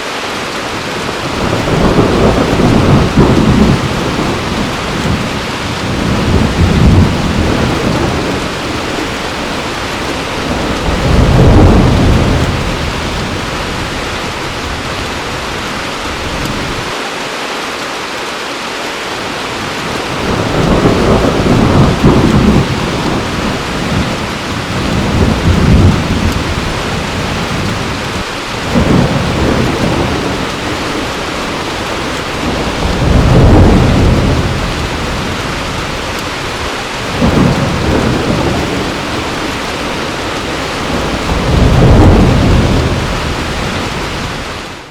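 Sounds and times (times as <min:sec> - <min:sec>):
heavy steady rain: 0:00.0 - 0:44.9
rolling thunder: 0:00.8 - 0:16.9, 0:19.6 - 0:44.9.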